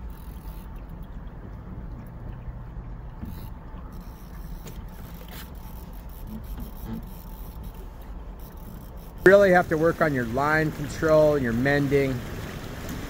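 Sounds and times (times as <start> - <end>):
river water rumble: 0.0 - 13.0
wind: 0.0 - 13.0.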